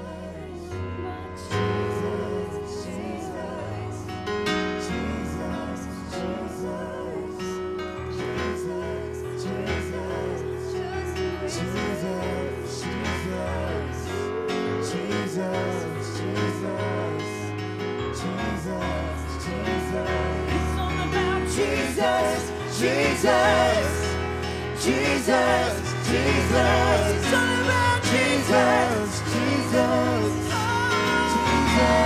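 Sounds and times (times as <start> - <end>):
band playing low chords: 0.0 - 32.0
singers improvising wordless vocals: 0.0 - 32.0.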